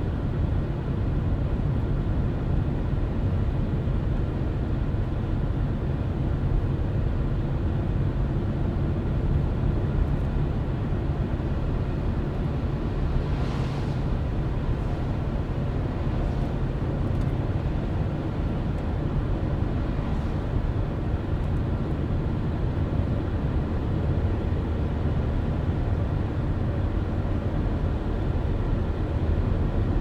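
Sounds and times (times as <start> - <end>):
car tyres and engine rumble: 0.0 - 30.0.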